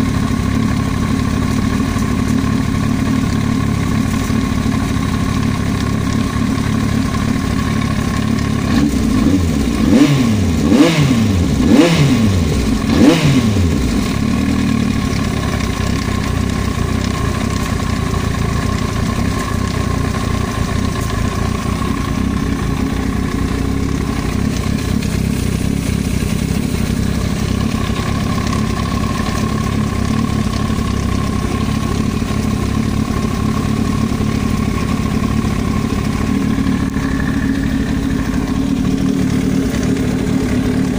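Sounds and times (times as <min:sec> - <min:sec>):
engine knocking: 0:00.0 - 0:40.9
motorcycle engine idling and revving: 0:00.0 - 0:40.9.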